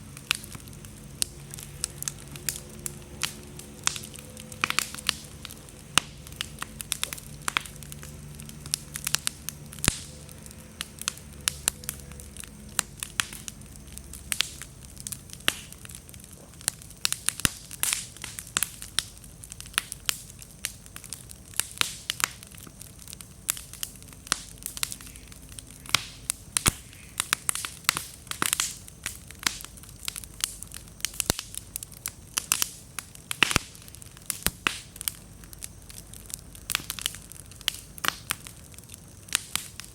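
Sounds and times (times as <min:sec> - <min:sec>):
bonfire crackling and popping: 0:00.0 - 0:39.9
soft hiss of flame: 0:00.0 - 0:39.9.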